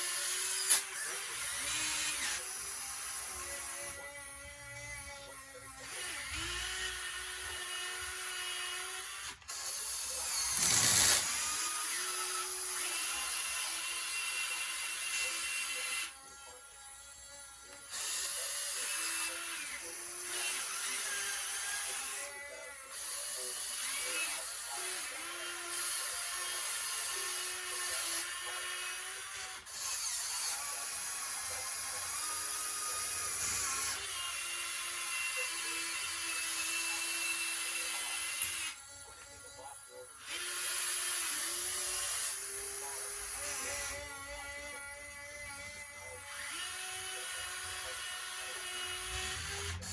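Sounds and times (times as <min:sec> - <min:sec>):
whine of electric pump and motors: 0:00.0 - 0:49.9.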